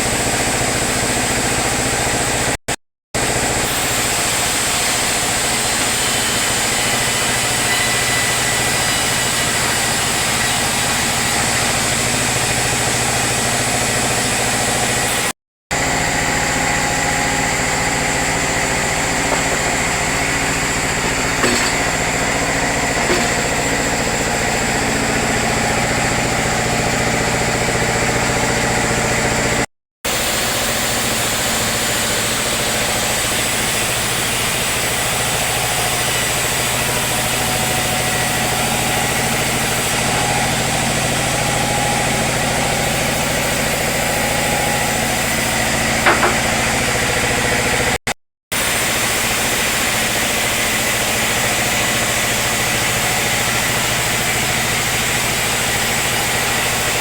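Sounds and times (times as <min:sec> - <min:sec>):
sawmill machinery drone: 0:00.0 - 0:02.6, 0:03.2 - 0:57.0.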